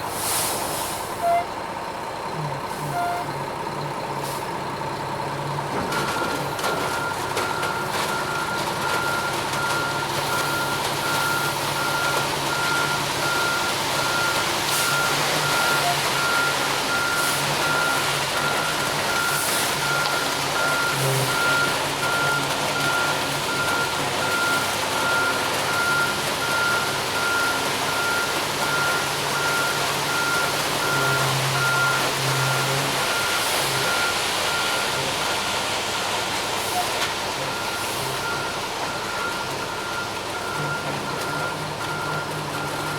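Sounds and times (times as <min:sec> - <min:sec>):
diesel engine running: 0:00.0 - 0:42.9
truck reversing alarm beeping: 0:00.2 - 0:42.9.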